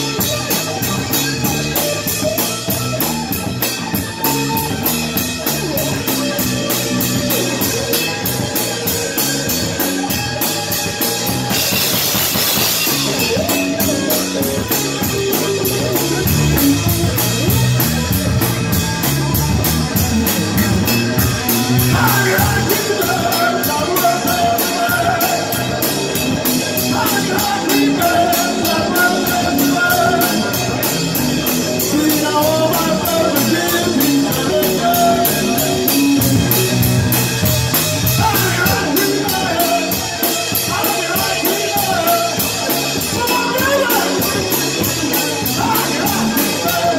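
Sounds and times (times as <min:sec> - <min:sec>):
drum kit: 0:00.0 - 0:46.9
electric bass: 0:00.0 - 0:46.9
electric guitar: 0:00.0 - 0:46.9.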